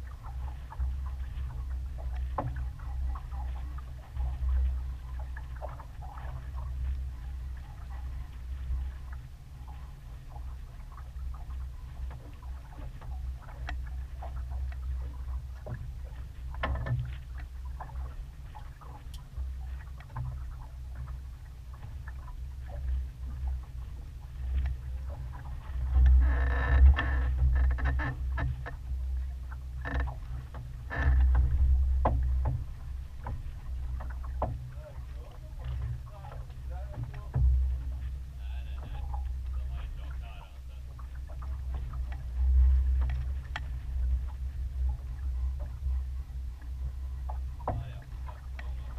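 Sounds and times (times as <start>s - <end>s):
water washing along hull: 0.0s - 48.9s
wind rumble on microphone: 0.0s - 48.9s.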